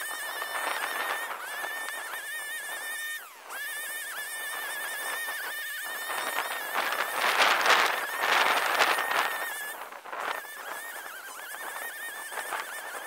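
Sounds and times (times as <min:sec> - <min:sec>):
brushcutter running at high revs: 0:00.0 - 0:13.0.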